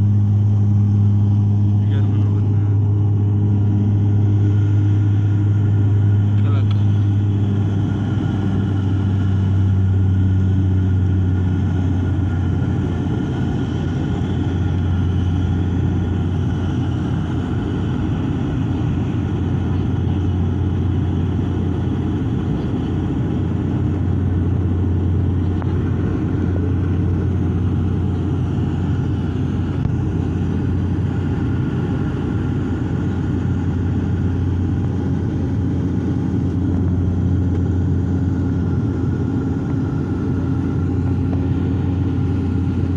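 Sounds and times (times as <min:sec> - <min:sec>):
airplane cabin drone: 0:00.0 - 0:42.9.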